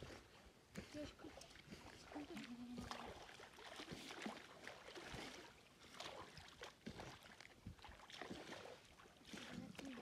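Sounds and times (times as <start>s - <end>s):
pond water splashing: 0.0s - 10.0s.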